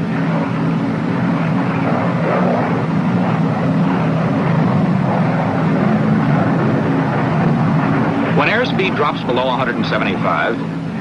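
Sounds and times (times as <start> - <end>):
piston aircraft engines droning: 0.0 - 11.0.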